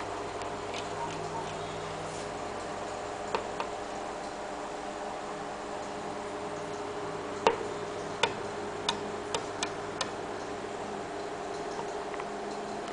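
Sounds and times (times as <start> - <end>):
steady background hum: 0.0 - 12.9.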